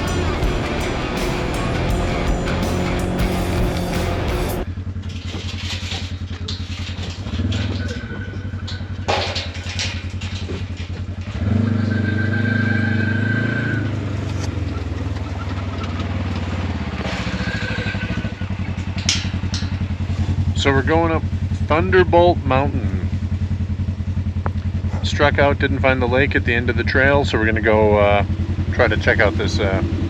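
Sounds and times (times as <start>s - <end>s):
vehicle engine throbbing: 0.0s - 30.0s.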